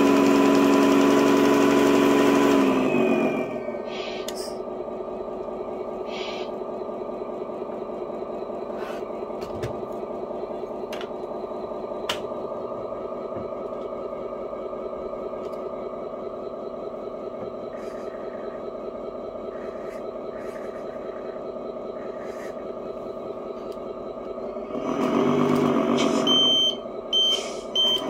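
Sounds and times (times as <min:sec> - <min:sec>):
simulated diesel engine idling: 0:00.0 - 0:28.0.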